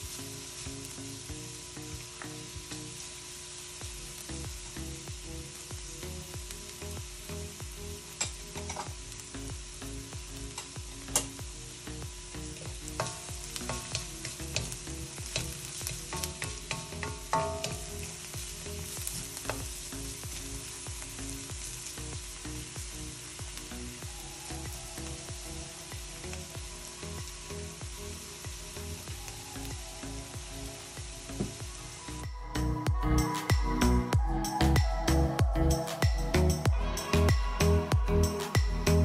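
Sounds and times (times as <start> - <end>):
garlic and onion sizzling in oil: 0.0 - 39.0.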